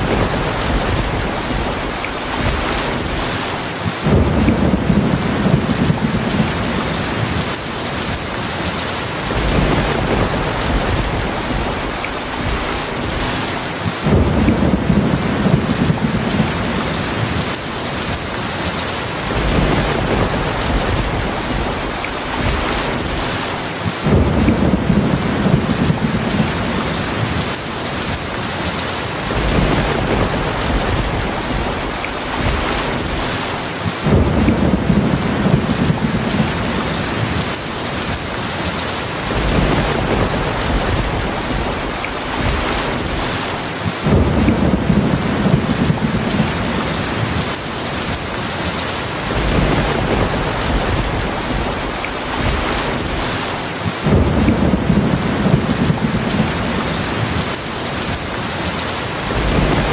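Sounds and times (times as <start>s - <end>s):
heavy rain: 0.0s - 59.9s
thunder rumbling: 0.0s - 59.9s.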